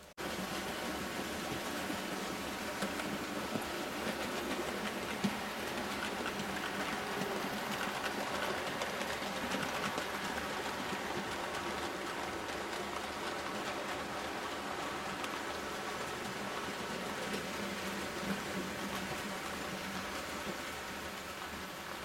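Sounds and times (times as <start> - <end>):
model train wheels rolling: 2.7 - 22.0.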